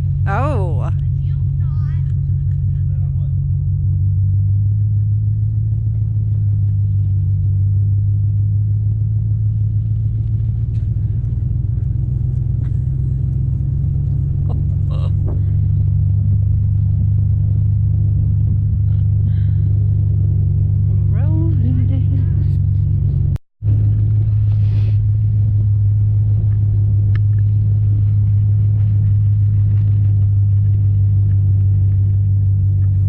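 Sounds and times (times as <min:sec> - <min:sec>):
road noise: 0:00.0 - 0:33.0
truck engine rumble: 0:00.0 - 0:33.0.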